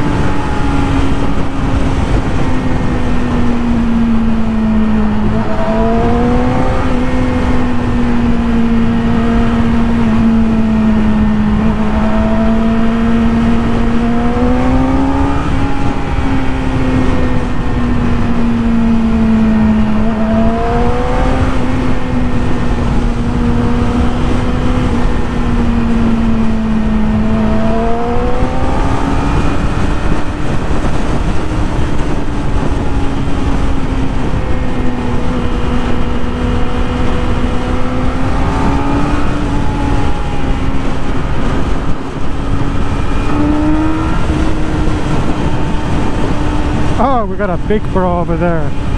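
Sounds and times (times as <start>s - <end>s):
motorcycle engine at high revs: 0.0s - 48.9s
wind rushing over microphone: 0.0s - 48.9s.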